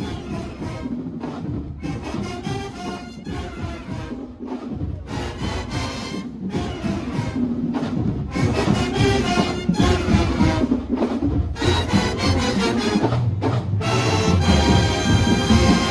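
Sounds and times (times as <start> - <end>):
marching band playing: 0.0 - 15.9.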